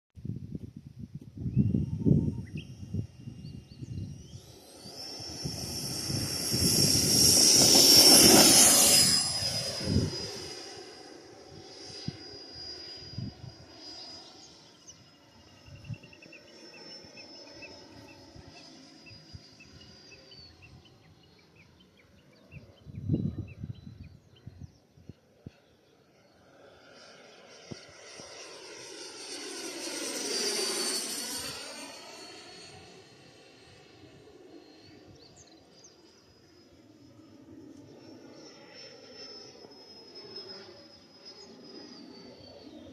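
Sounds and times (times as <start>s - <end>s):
model jet fan whining: 0.4s - 42.9s.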